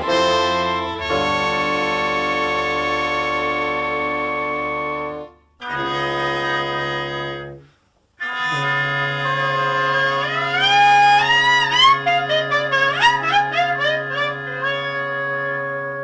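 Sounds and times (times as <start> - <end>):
brass band music: 0.0 - 7.6, 8.2 - 16.0.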